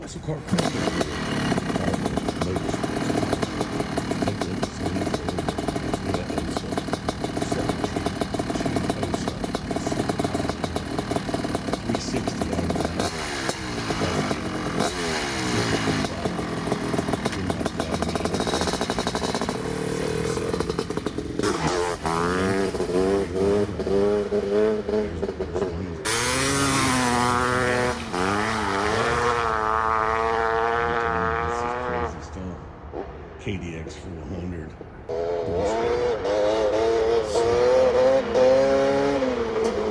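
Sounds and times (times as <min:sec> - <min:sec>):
two-stroke engine revving: 0:00.0 - 0:33.3, 0:35.1 - 0:39.9.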